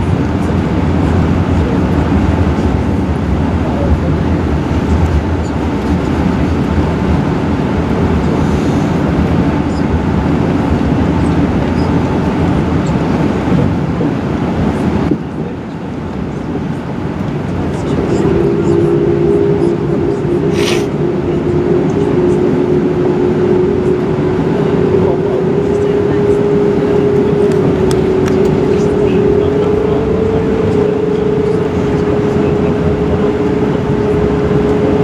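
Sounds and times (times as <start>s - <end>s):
aircraft cabin engine rumble: 0.0s - 35.0s.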